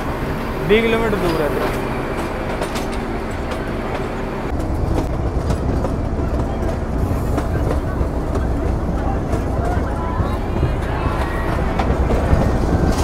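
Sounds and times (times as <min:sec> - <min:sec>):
diesel locomotive engine rumble: 0:00.0 - 0:13.0
wheels clicking over rail joints: 0:00.0 - 0:13.0.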